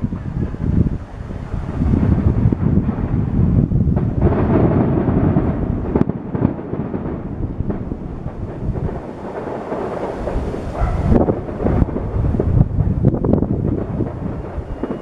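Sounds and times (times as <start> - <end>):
fireworks booming: 0.0 - 15.0
sharp firework crack: 0.0 - 15.0.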